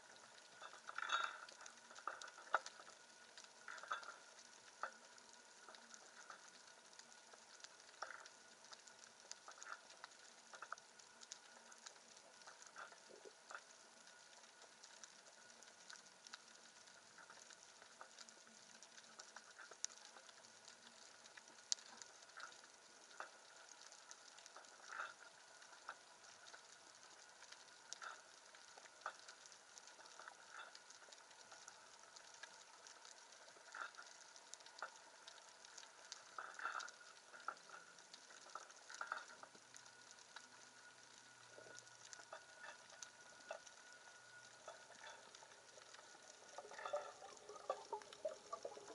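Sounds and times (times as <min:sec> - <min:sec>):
underwater crackle: 0:00.0 - 0:48.9
underwater clicks: 0:00.2 - 0:48.9.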